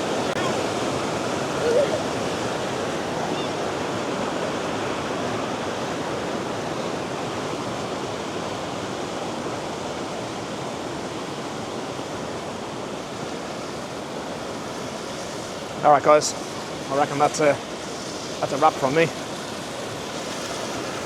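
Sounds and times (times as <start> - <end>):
river rushing through rapids: 0.0 - 21.0.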